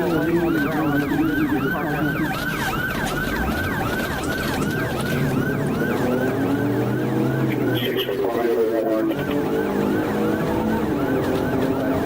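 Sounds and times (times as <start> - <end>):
police siren yelping: 0.0 - 12.0
road and engine noise: 0.0 - 12.0.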